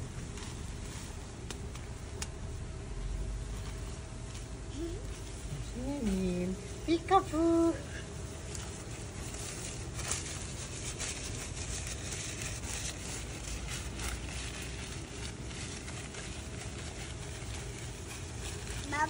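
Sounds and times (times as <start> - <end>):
tent fabric rustling: 0.0 - 2.3, 3.3 - 19.0
low outdoor rumble: 0.0 - 19.0.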